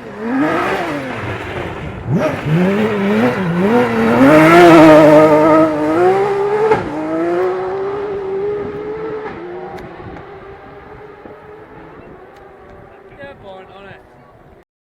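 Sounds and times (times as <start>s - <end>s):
rally car engine accelerating: 0.0s - 13.4s.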